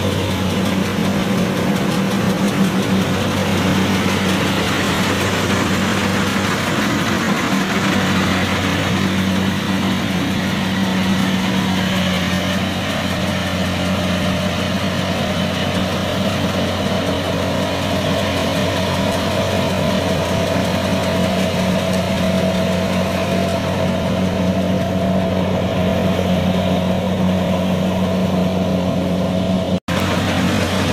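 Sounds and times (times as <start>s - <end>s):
combine harvester running: 0.0s - 30.9s.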